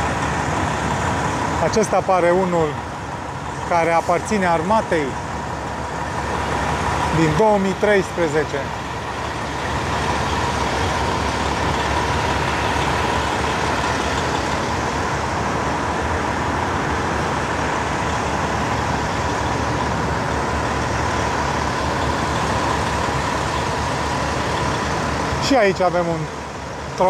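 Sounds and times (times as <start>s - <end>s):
engine and traffic rumble: 0.0s - 27.0s.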